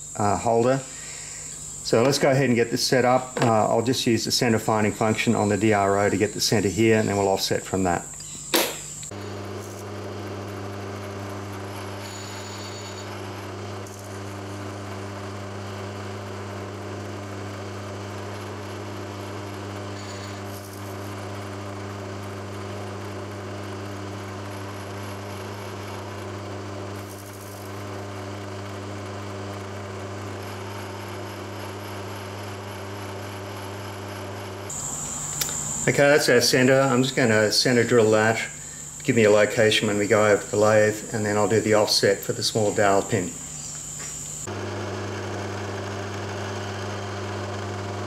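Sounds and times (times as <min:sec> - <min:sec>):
milling machine spindle hum: 0:00.0 - 0:48.0.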